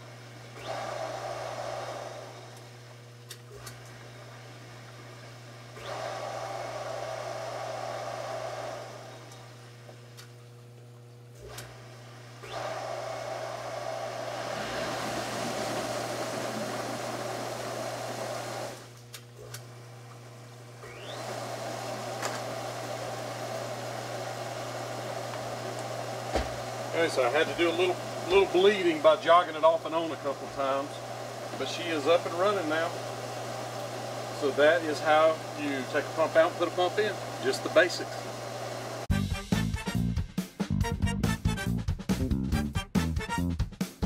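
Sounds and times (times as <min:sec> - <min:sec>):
pump whining and humming: 0:00.0 - 0:39.1.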